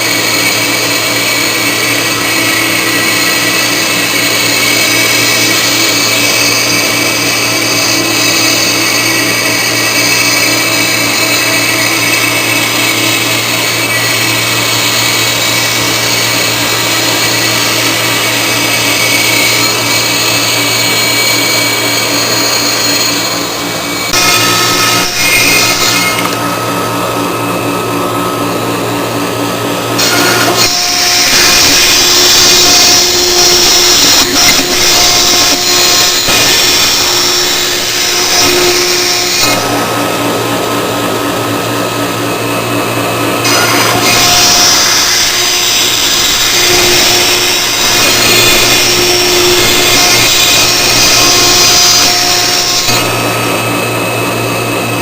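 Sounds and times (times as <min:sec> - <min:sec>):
cnc router whirring: 0:00.0 - 0:55.0.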